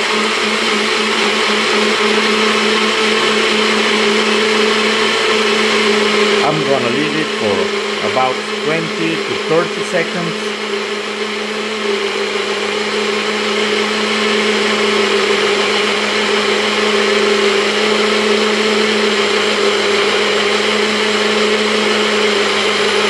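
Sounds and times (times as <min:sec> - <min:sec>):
blender motor humming: 0:00.0 - 0:23.0.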